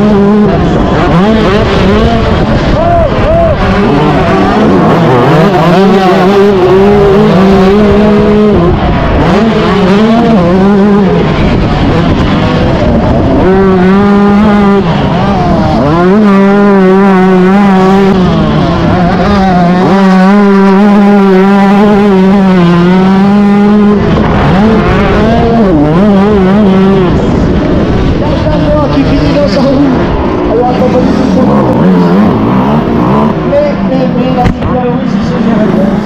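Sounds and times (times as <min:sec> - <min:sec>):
two-stroke motorbike engine revving: 0:00.0 - 0:36.0.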